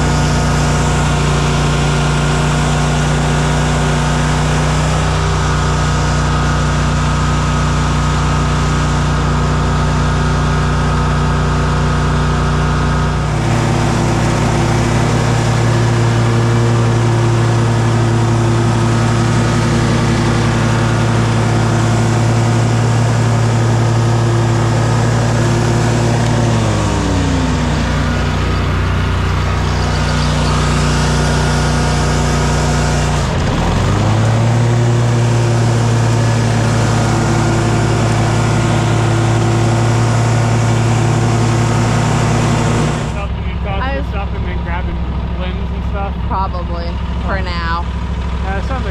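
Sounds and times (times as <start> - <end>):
engine running under load: 0.0 - 48.9.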